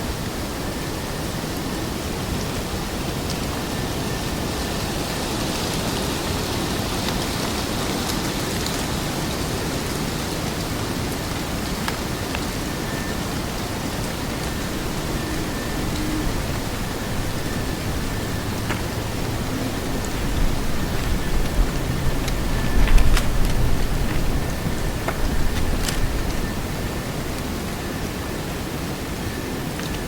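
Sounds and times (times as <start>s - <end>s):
steady rushing hiss: 0.0s - 30.0s.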